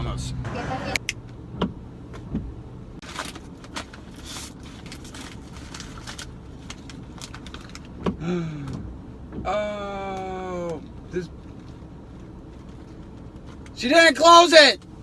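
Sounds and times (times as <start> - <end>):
vehicle engine hum inside cab: 0.0 - 15.0.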